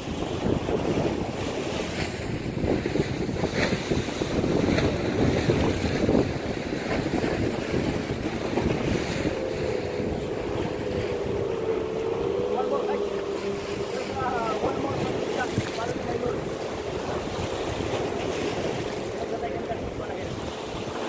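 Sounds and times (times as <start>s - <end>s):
boat engine droning: 0.0s - 21.0s
waves splashing against rocks: 0.0s - 21.0s
wind buffeting microphone: 0.0s - 21.0s.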